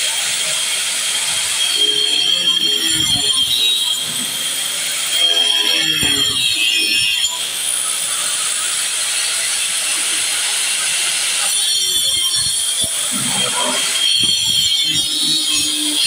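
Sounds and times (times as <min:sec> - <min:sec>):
angle grinder cutting concrete: 0:00.0 - 0:16.0.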